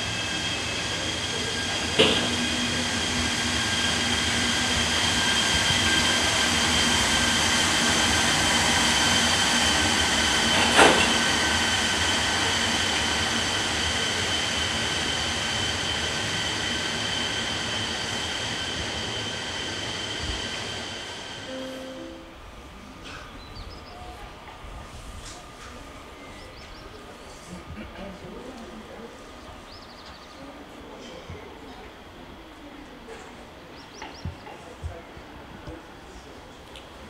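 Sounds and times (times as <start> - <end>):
train running on rails: 0.0 - 37.0.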